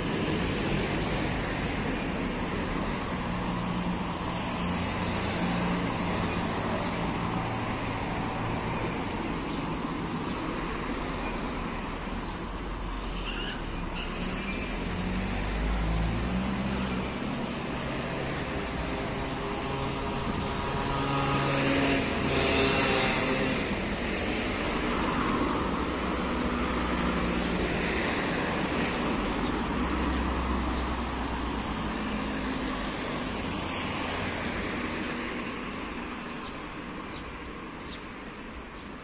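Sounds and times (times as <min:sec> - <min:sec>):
cars driving by: 0:00.0 - 0:38.8.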